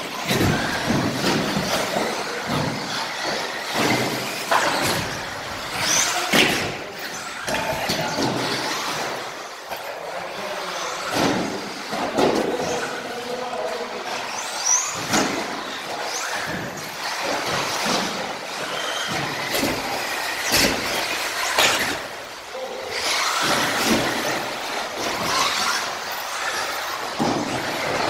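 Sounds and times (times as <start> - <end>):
model car motors and tyres: 0.0 - 28.0.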